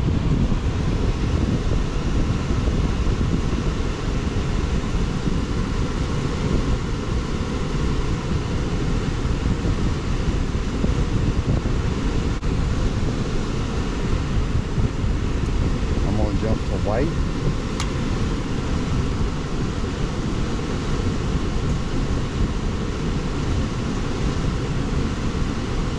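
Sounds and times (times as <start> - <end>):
blower fan running: 0.0 - 25.9.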